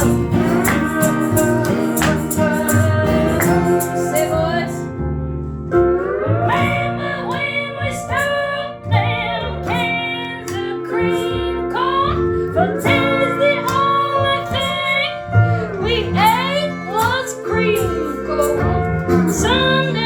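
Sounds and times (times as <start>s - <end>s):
person singing: 0.0s - 4.9s, 6.2s - 20.0s
instrumental backing: 0.0s - 20.0s.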